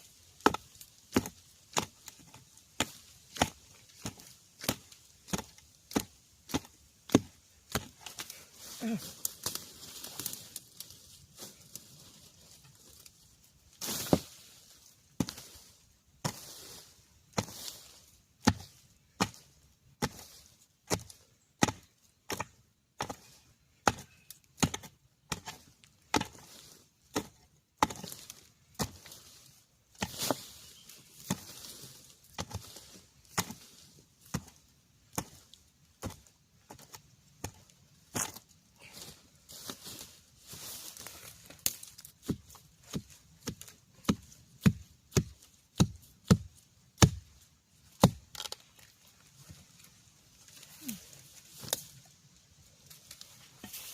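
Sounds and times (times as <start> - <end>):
hand tool chopping at bamboo and ground: 0.0 - 13.1, 13.7 - 52.1, 52.9 - 53.9.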